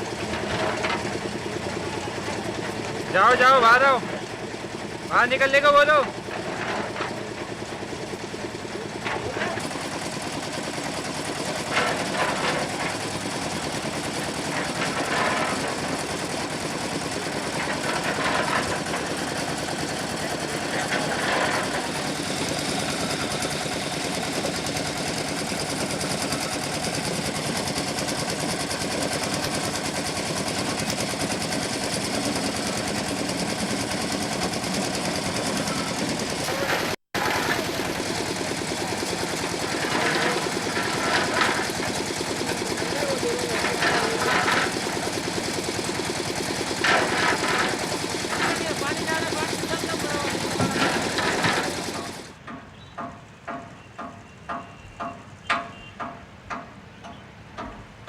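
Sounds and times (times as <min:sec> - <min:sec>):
construction machinery rattling: 0:00.0 - 0:58.0.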